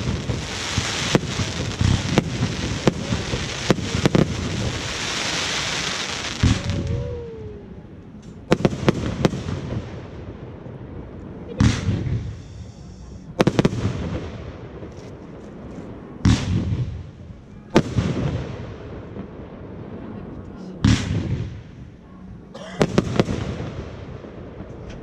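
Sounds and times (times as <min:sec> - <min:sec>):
fireworks bangs with rumbling echo: 0:00.0 - 0:07.4, 0:08.3 - 0:25.0.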